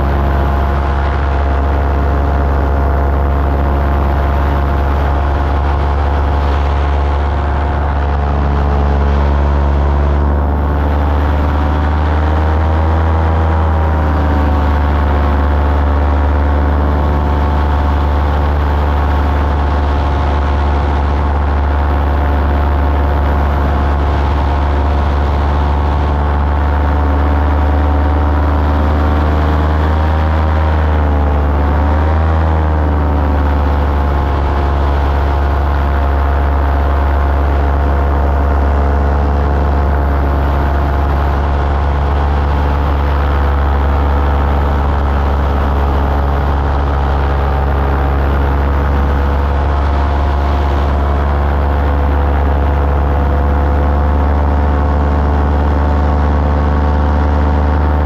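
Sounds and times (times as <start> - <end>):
small aircraft engine in flight: 0.0 - 58.0.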